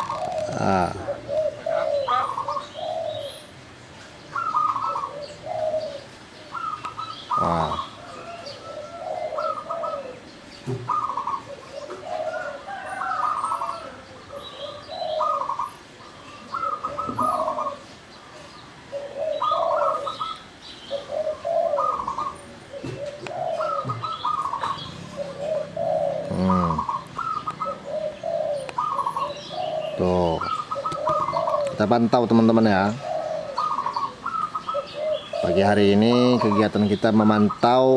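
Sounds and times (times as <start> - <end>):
doves cooing: 0.0 - 37.9
sparrows chirping faintly: 0.0 - 37.9.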